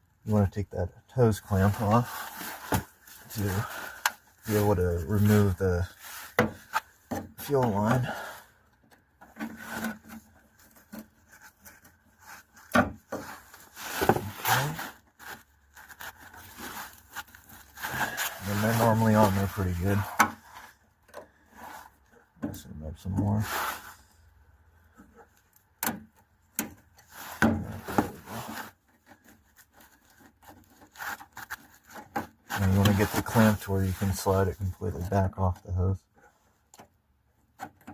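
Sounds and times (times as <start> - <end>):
hands and tool scraping: 1.2 - 22.4, 23.0 - 24.2, 24.9 - 37.9.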